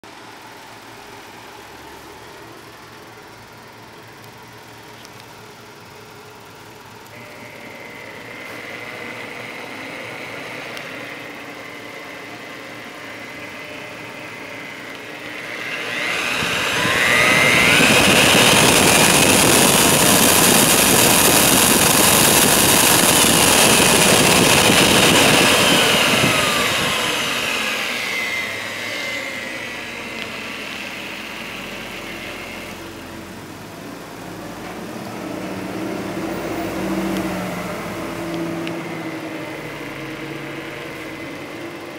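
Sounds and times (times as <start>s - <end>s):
drill press motor running: 0.0s - 41.9s.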